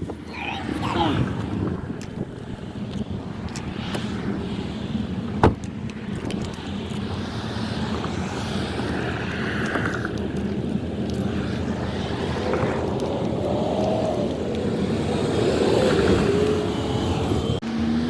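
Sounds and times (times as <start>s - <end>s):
engine-like rumble: 0.1s - 18.0s.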